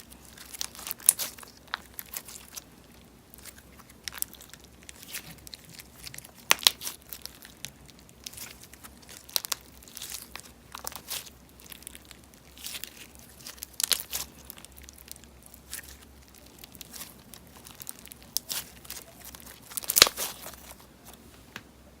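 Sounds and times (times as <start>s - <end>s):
slime crackling and popping: 0.0s - 21.2s.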